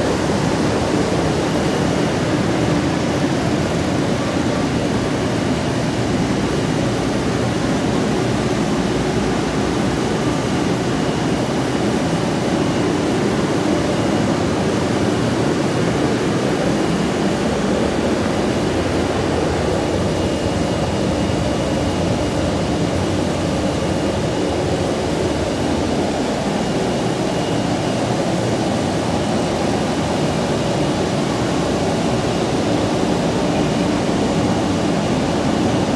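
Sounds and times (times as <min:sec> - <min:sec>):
factory machinery drone: 0:00.0 - 0:35.9.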